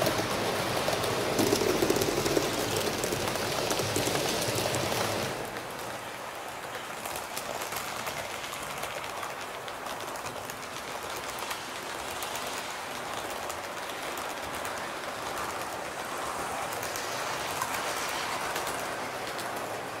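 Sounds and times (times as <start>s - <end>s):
model train running on track: 0.0s - 20.0s.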